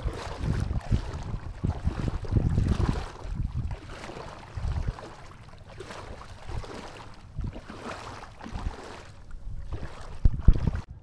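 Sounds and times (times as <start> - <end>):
rough wash of outdoor noise: 0.0 - 11.0
wind buffeting microphone: 0.0 - 11.0.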